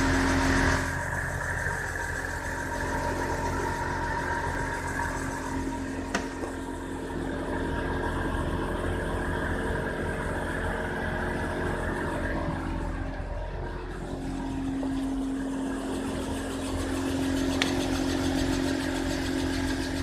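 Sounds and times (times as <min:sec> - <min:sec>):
wheel bearing hum: 0:00.0 - 0:20.0.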